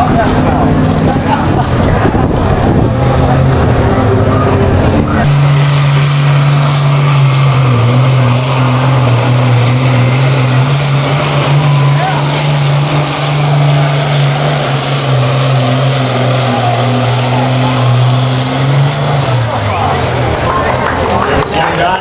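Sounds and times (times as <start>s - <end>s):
tractor engine at full throttle: 0.0s - 22.0s.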